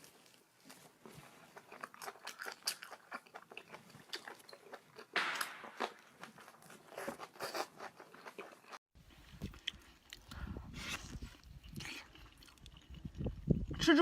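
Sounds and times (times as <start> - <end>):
crunching and chewing crisp food: 0.0 - 13.8.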